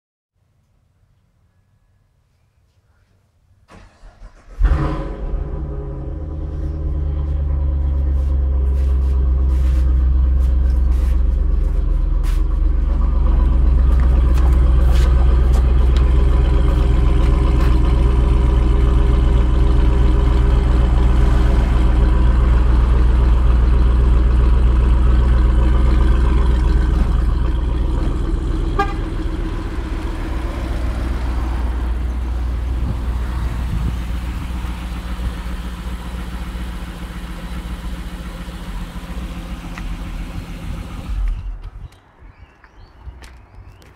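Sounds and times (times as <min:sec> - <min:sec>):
car engine idling: 0:03.7 - 0:41.6.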